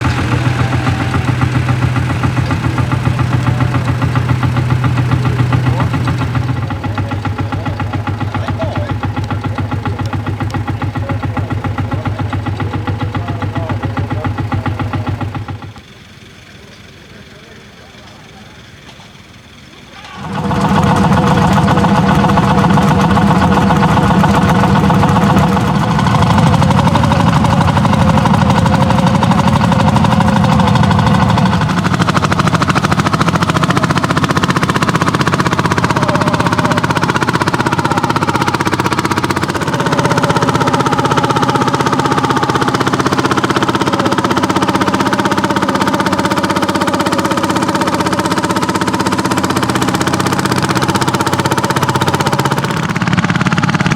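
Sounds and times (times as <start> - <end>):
tractor engine knocking: 0.0 - 53.9.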